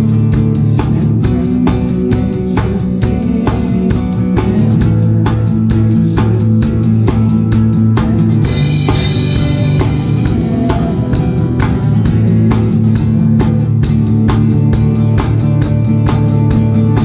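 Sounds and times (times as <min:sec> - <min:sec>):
drum kit beat: 0:00.0 - 0:17.0
worship band music: 0:00.0 - 0:17.0.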